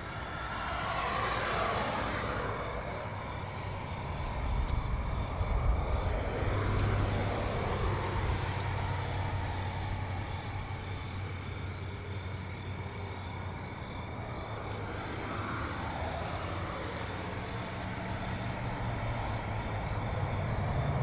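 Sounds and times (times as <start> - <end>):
crickets chirping: 0.0 - 21.0
vehicles passing: 0.0 - 21.0.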